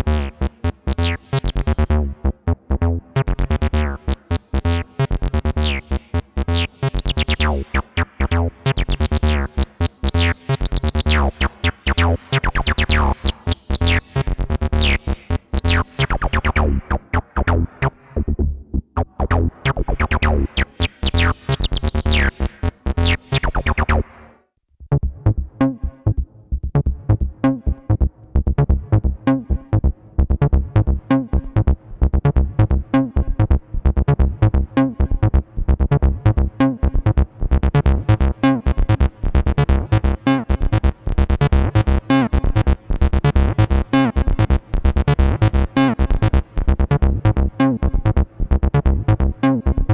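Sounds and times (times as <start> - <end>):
acid bassline synthesizer: 0.0 - 49.9.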